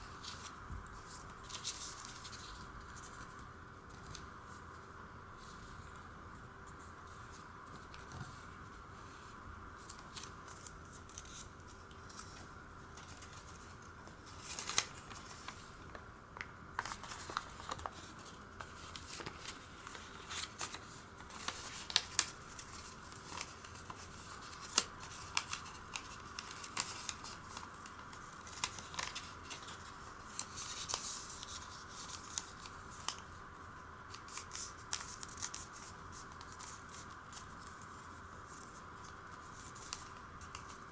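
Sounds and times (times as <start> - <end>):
paper crinkling and rustling: 0.0 - 4.8, 9.8 - 33.4, 34.1 - 40.9.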